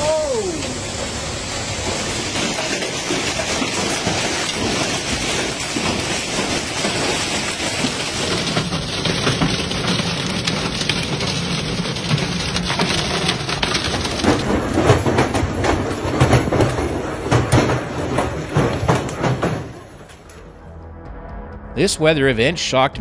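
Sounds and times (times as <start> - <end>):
rain hissing: 0.0 - 19.2
hail clattering on street: 0.0 - 20.4.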